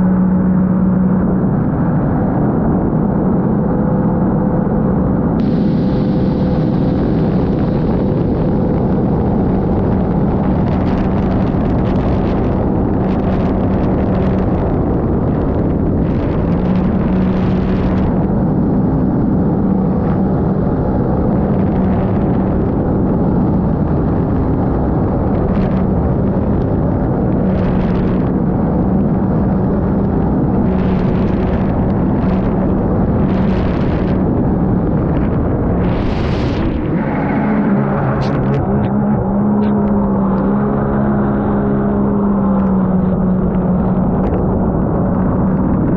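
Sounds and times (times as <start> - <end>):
personal watercraft engine: 3.6 - 45.9
rushing water and wind: 5.4 - 45.9.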